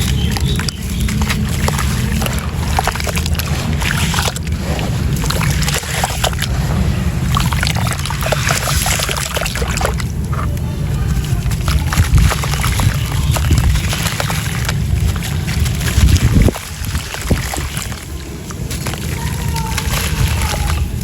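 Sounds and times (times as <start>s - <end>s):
crumbling chunks crackling: 0.0s - 21.0s
low rumble: 0.0s - 21.0s
water sloshing: 0.0s - 21.0s.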